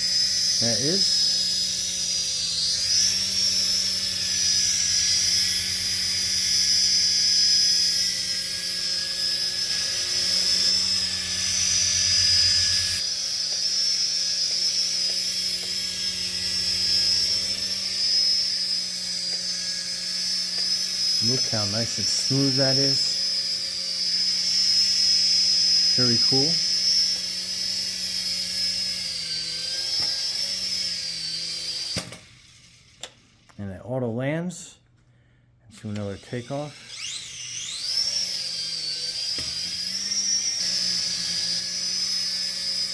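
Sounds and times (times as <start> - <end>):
toy helicopter motors whining: 0.0 - 33.6, 35.8 - 42.9.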